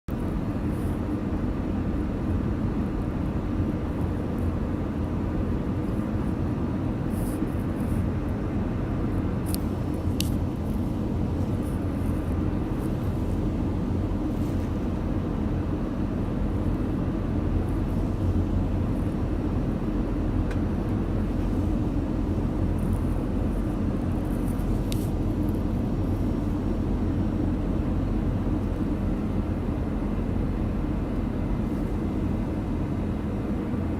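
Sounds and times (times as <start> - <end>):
airliner cabin drone: 0.1 - 33.9
faint hum: 0.1 - 33.9.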